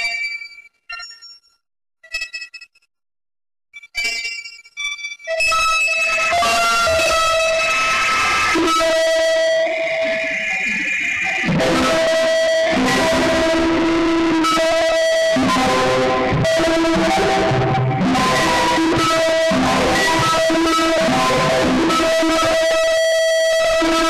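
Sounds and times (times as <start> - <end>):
distorted guitar-like electronic tones: 3.8 - 24.0.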